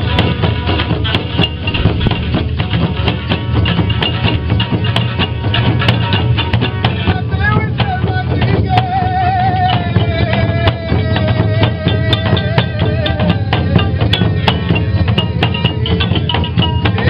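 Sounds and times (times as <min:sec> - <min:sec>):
frame drums beating fast rhythm: 0:00.0 - 0:17.0
plucked string instrument: 0:00.0 - 0:17.0.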